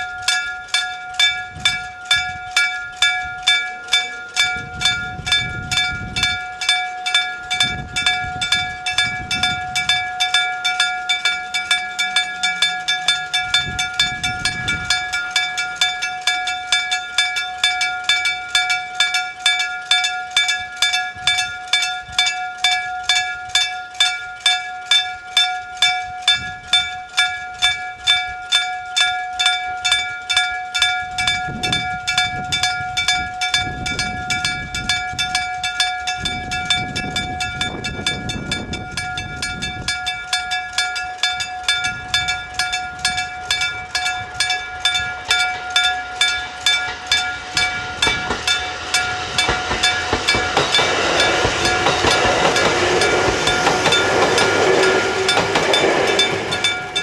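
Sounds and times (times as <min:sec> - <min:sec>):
level crossing warning bell: 0:00.0 - 0:57.0
train rumble: 0:00.0 - 0:57.0.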